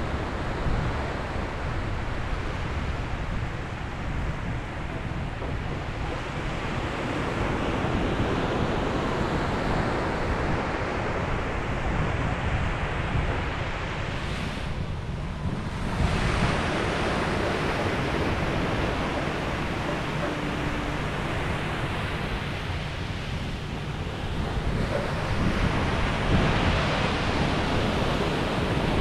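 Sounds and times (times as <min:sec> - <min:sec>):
ocean waves breaking on beach: 0:00.0 - 0:29.0
wind on microphone: 0:00.0 - 0:29.0.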